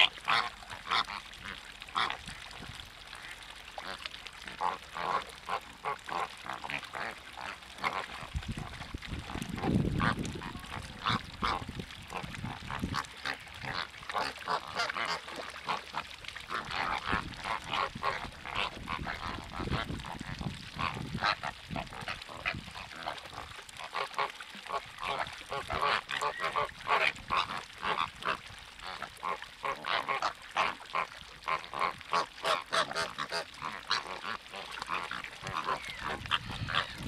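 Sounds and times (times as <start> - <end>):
waterbirds calling: 0.0 - 37.0.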